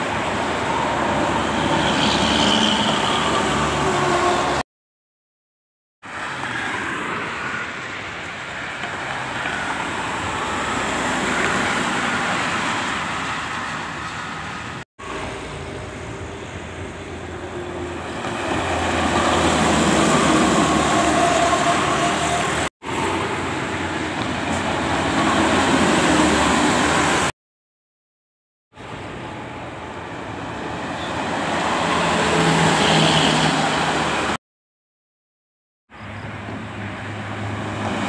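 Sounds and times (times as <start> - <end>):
highway traffic: 0.0 - 4.7, 6.0 - 27.4, 28.7 - 34.4, 35.9 - 38.0.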